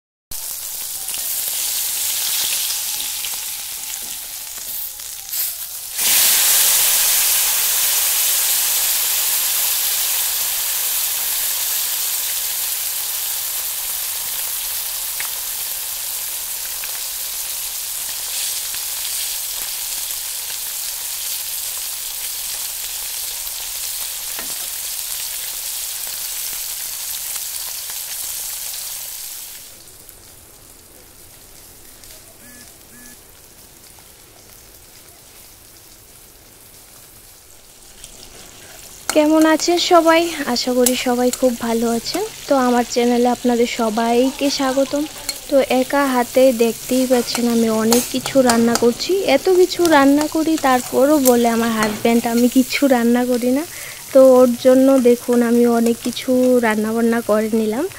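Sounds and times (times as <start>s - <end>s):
fish sizzling in hot oil: 0.3s - 57.9s.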